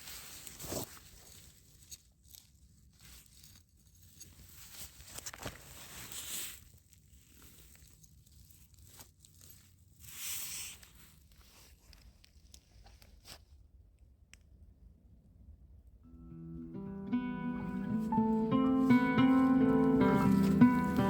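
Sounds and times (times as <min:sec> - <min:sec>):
rustling and crackling: 0:00.0 - 0:13.7, 0:17.6 - 0:21.0.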